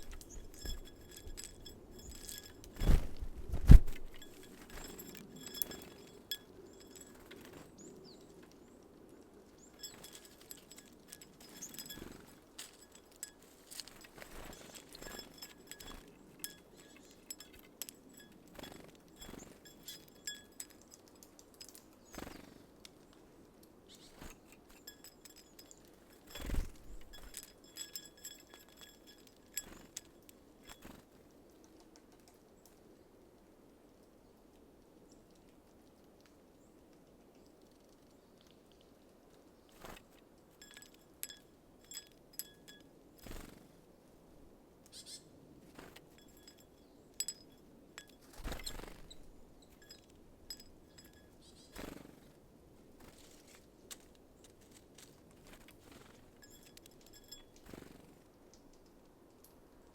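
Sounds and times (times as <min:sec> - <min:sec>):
birds pecking at seeds: 0:00.0 - 0:43.8, 0:44.4 - 0:59.9.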